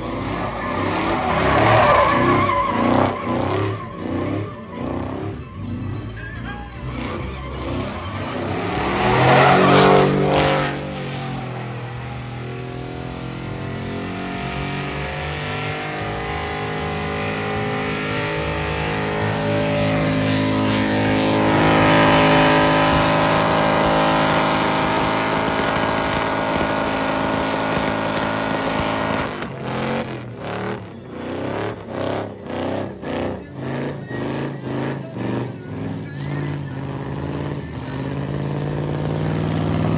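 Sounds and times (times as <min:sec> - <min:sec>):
truck engine revving hard: 0:00.0 - 0:39.9
tyres spinning: 0:00.0 - 0:39.9.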